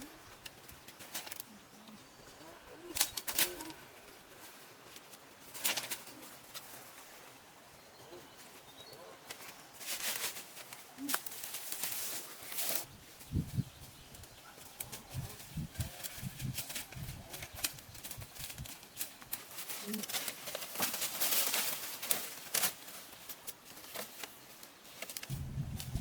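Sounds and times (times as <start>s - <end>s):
rustling and handling noises: 0.0s - 26.0s.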